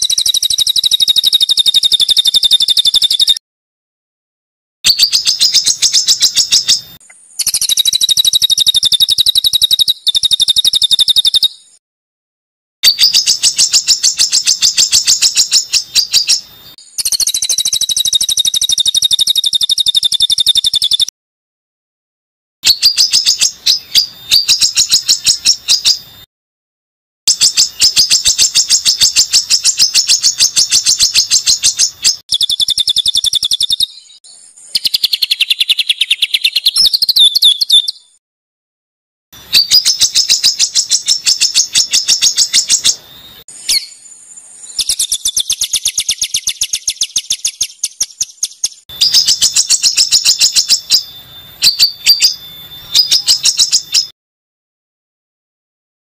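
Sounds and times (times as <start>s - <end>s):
rapid high-pitched bird calls: 0.0s - 3.4s, 4.9s - 11.8s, 12.8s - 21.1s, 22.6s - 26.3s, 27.3s - 38.2s, 39.4s - 54.2s.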